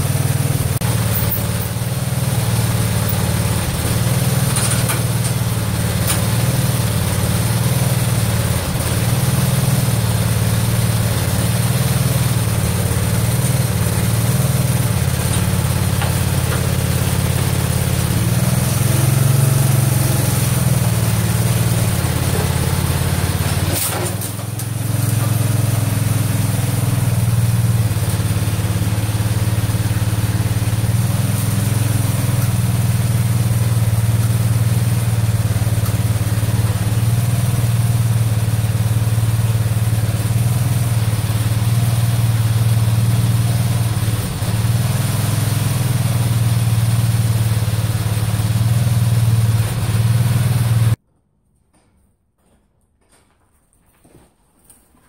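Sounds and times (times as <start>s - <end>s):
garden tractor engine running: 0.0s - 51.0s.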